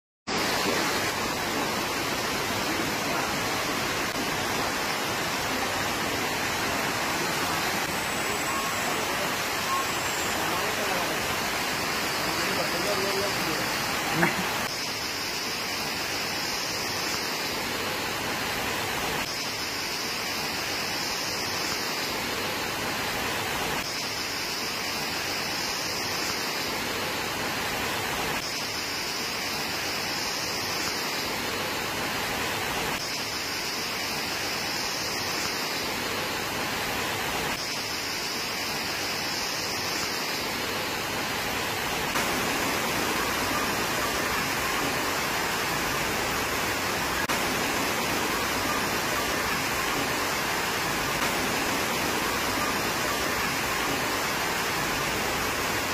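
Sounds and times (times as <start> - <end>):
high hiss: 0.3 - 55.9
rain and floodwater rushing: 0.3 - 55.9.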